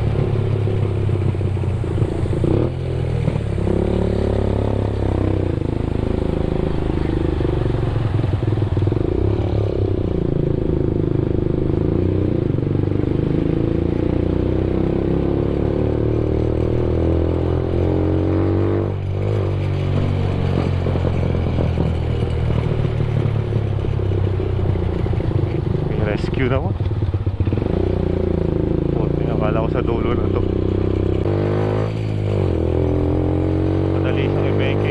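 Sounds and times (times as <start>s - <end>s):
motorcycle engine under load: 0.0s - 34.9s.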